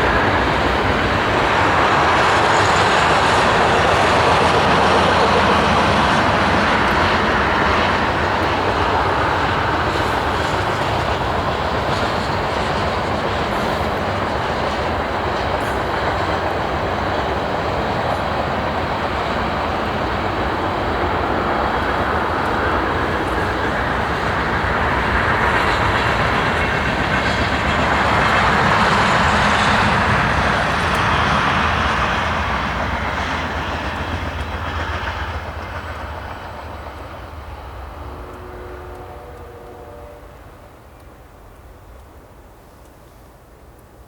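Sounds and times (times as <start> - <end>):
freight train wheels on rails: 0.0 - 44.0.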